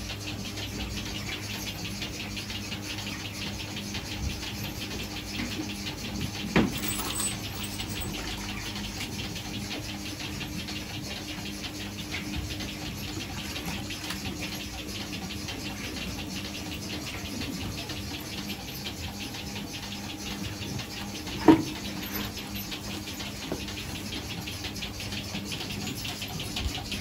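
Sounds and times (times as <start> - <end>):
machine humming and ticking: 0.0 - 27.0.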